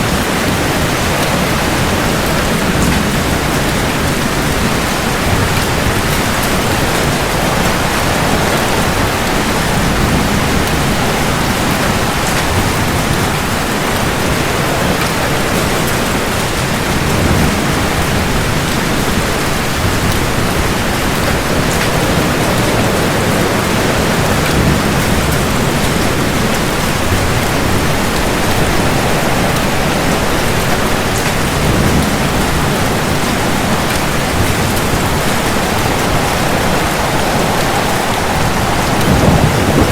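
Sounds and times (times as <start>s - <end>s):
heavy rain falling: 0.0s - 39.9s
low thunder rumbling: 0.0s - 39.9s.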